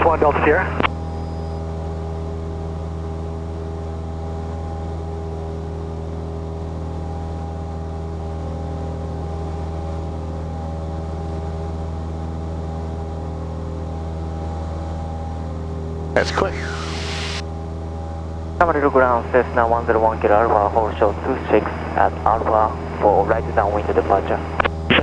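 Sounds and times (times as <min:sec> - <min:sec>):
airplane engine and propeller droning: 0:00.0 - 0:25.0.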